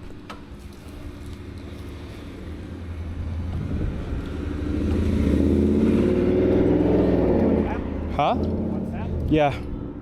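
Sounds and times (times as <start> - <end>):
car engine approaching: 0.5 - 10.0.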